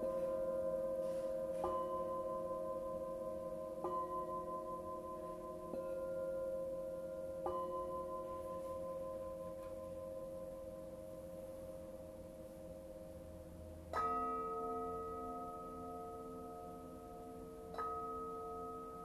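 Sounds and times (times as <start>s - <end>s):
singing bowls ringing: 0.0s - 19.0s.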